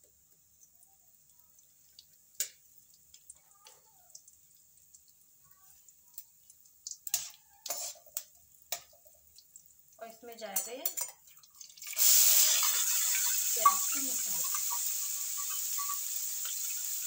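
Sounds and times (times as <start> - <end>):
seeds spluttering in hot oil: 0.0 - 17.0.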